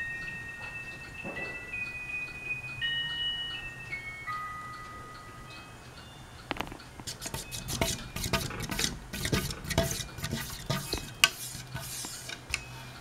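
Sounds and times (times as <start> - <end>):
ceiling fan humming: 0.0 - 13.0.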